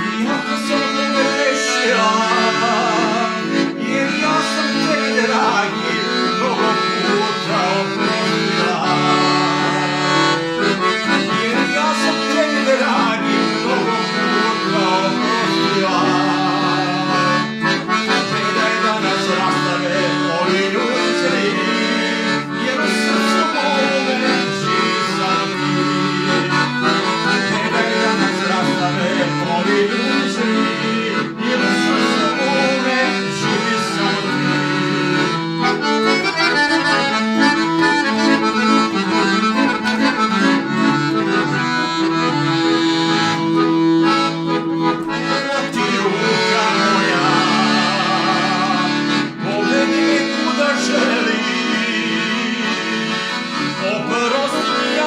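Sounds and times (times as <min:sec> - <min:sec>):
accordion playing a tune: 0:00.0 - 0:55.0.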